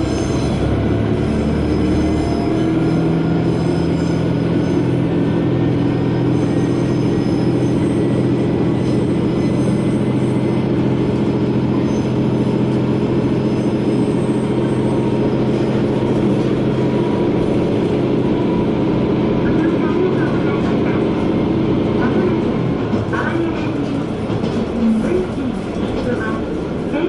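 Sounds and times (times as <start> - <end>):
diesel engine drone: 0.0 - 27.0
train wheels rumbling on rail: 0.0 - 27.0.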